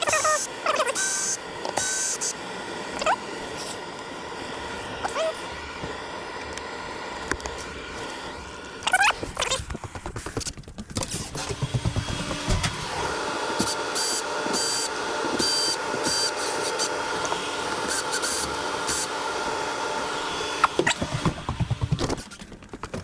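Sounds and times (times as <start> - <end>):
power tool motor running: 0.0 - 9.6, 11.0 - 22.4.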